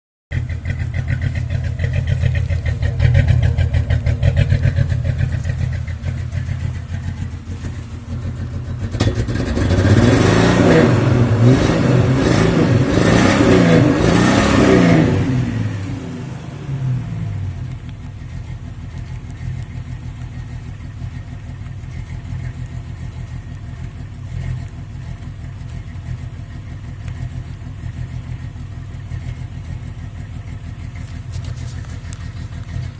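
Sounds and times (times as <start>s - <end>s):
car engine idling unevenly: 0.3s - 32.9s.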